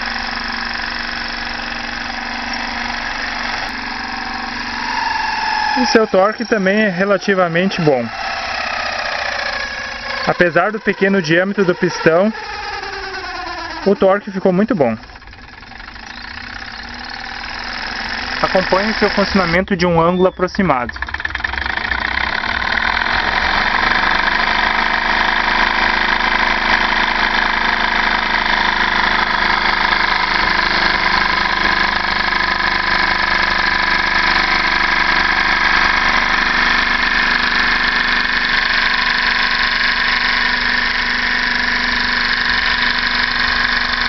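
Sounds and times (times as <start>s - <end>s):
stirling engine whirring: 0.0s - 44.0s.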